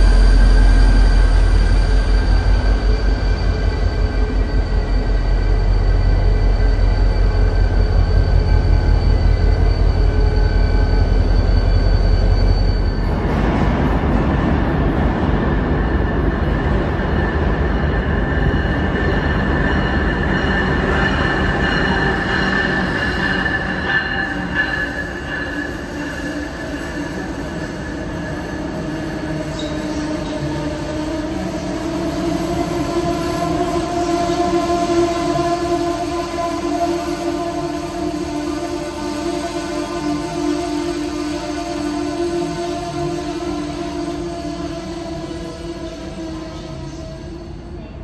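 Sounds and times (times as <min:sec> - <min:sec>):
train rolling past: 0:00.0 - 0:48.0
wheels squealing on rails: 0:00.0 - 0:48.0.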